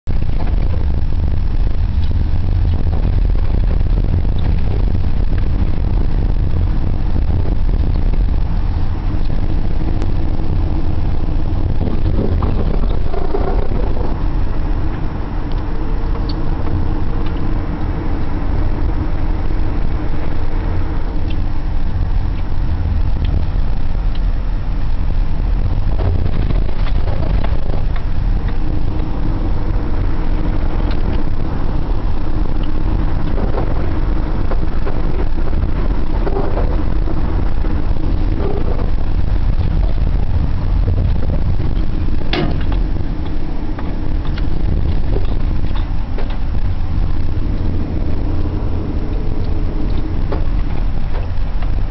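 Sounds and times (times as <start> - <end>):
car engine and road rumble: 0.0 - 51.9
faint engine hum: 0.0 - 51.9.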